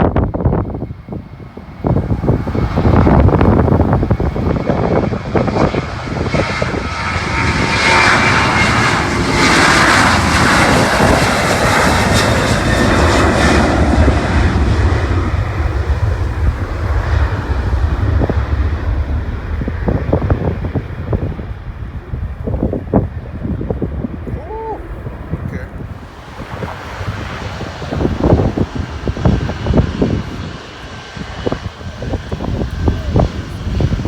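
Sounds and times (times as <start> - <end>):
jet airliner passing by: 0.0 - 34.0
wind rumbling on microphone: 0.0 - 34.0.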